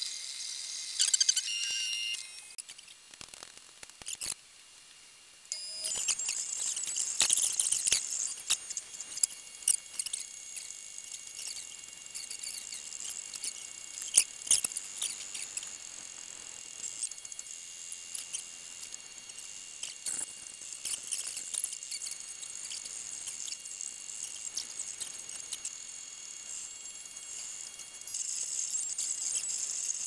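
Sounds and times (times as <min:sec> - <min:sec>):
printer motors high-pitched tones: 0:00.0 - 0:02.6, 0:05.5 - 0:30.0.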